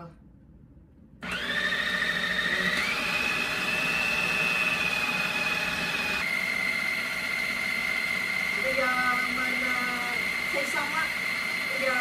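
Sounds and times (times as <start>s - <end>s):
food processor motor whine: 1.2s - 12.0s.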